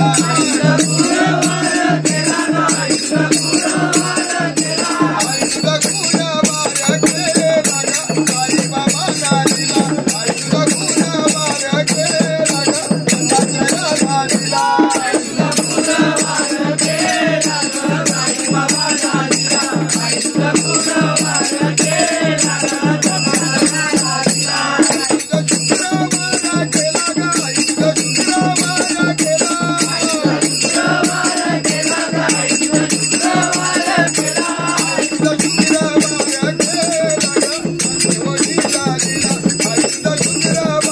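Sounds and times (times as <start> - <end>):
jingling hand percussion: 0.0 - 40.9
men singing together: 0.0 - 40.9.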